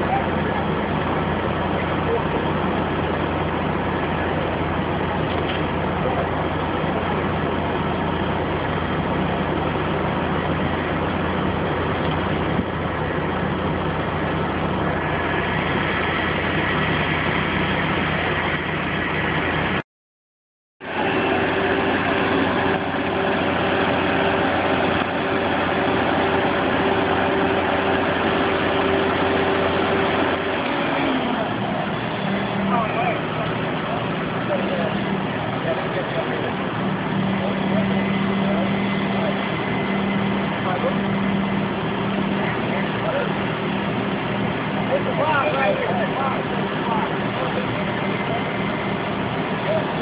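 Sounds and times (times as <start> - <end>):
crane engine running: 0.0 - 19.8, 20.8 - 50.0
steady hum: 0.0 - 19.8, 20.8 - 50.0.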